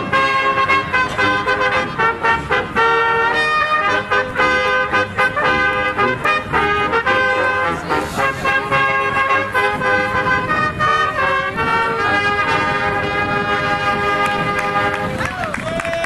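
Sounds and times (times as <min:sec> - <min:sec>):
brass ensemble playing: 0:00.0 - 0:15.3.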